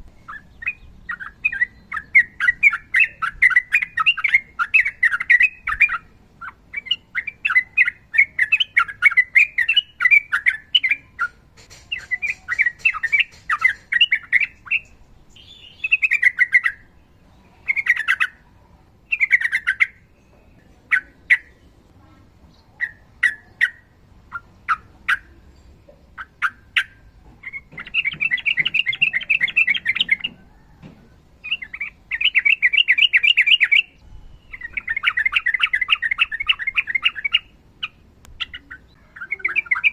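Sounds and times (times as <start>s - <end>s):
bird singing chattering trills: 0.0s - 30.8s, 31.4s - 39.9s.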